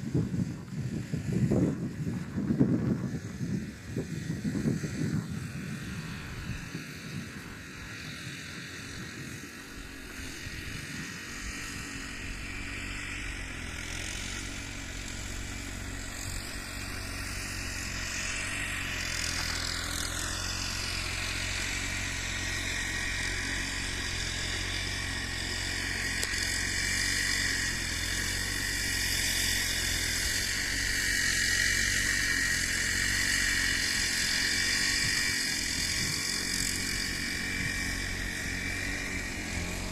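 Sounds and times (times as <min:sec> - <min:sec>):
diesel railcar engine hum: 0:00.0 - 0:39.9.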